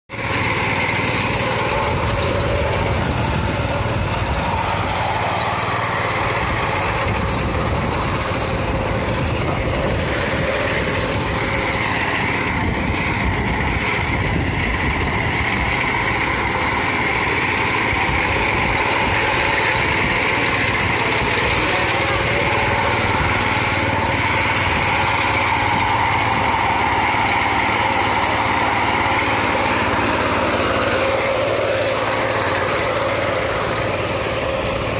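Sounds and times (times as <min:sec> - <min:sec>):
small petrol engine running: 0:00.1 - 0:34.9.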